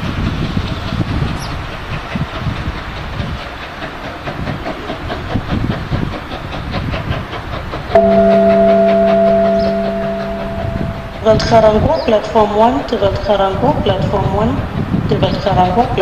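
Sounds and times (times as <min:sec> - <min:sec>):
train rhythmic clatter: 0:00.0 - 0:16.0.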